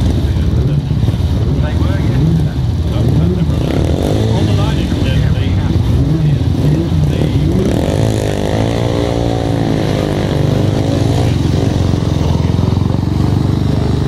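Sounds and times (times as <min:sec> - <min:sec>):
single-cylinder racing engine running: 0:00.0 - 0:14.0.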